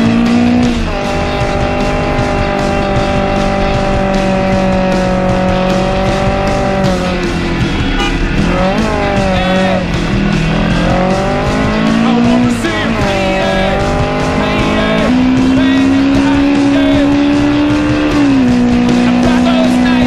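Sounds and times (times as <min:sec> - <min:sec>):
background music with steady beat: 0:00.0 - 0:20.0.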